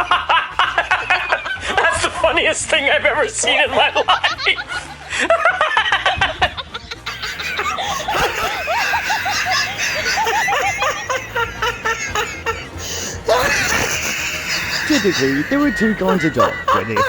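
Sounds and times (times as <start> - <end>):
person laughing: 0.0 - 2.2, 3.7 - 17.0.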